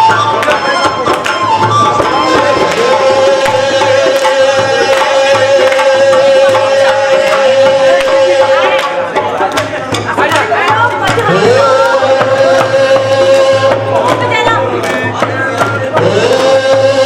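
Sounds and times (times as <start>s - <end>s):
devotional music: 0.0s - 17.0s
steady drum beat: 0.0s - 17.0s
tabla: 0.0s - 17.0s.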